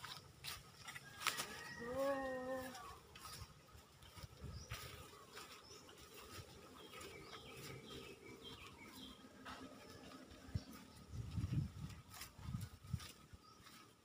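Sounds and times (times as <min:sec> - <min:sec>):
soft footsteps through grass: 0:00.0 - 0:14.0.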